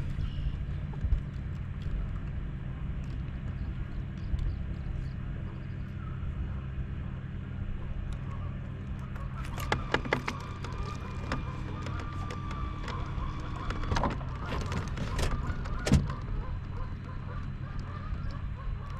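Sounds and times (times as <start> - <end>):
boat motor humming: 0.0 - 18.9.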